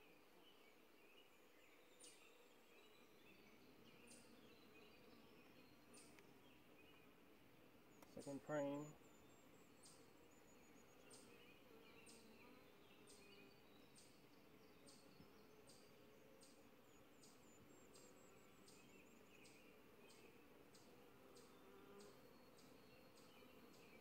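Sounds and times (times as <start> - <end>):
honeybees humming: 0.4 - 24.0.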